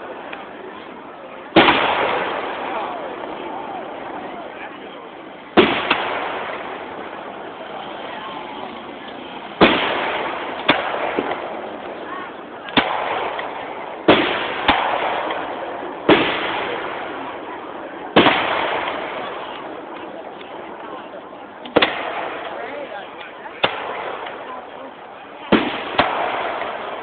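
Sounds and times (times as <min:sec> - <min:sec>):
fireworks bangs: 0:00.0 - 0:27.0.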